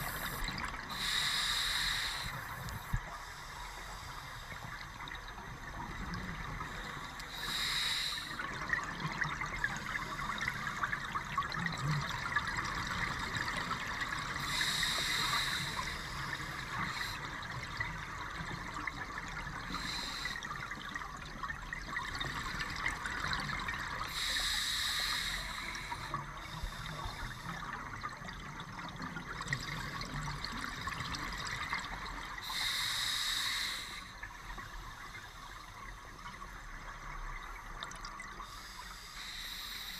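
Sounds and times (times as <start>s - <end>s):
crackling underwater hiss: 0.0s - 39.9s.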